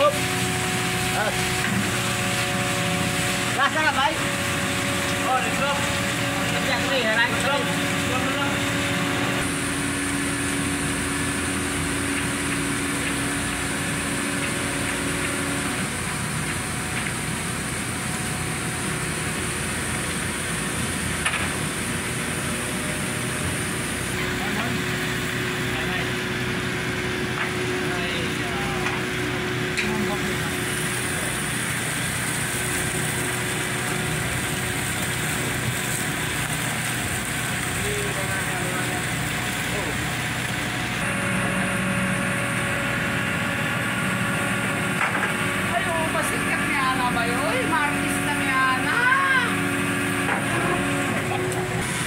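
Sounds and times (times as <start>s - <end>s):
engine idling: 0.0s - 52.0s
high whine: 0.0s - 52.0s
machinery droning: 0.0s - 52.0s.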